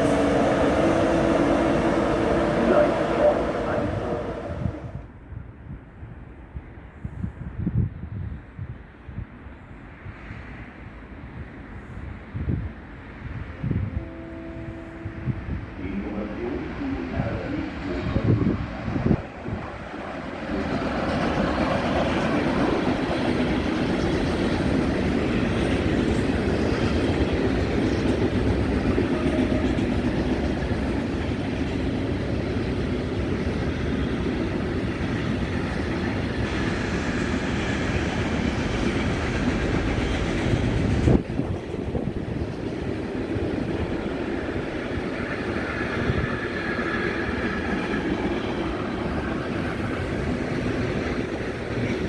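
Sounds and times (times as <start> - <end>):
train rumbling past: 0.0 - 52.0.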